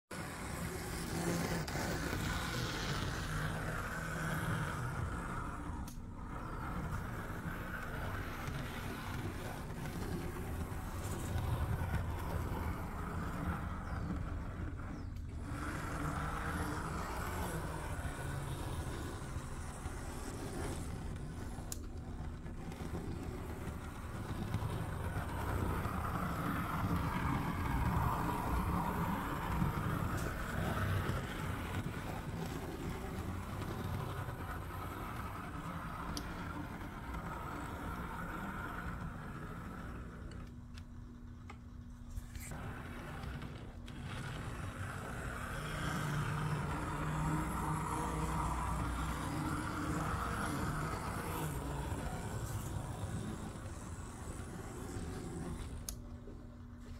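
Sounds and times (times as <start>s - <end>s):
model train motor whirring: 0.2s - 56.9s.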